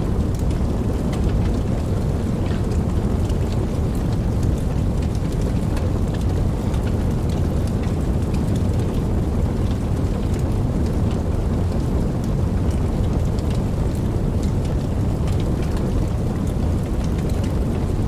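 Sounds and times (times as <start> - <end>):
low continuous rumble: 0.0 - 18.0
steady rain: 0.0 - 18.0.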